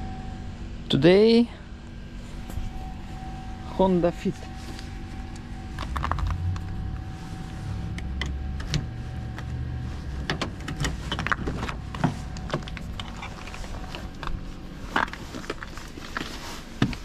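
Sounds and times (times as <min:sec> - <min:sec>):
low rumble: 0:00.0 - 0:16.6.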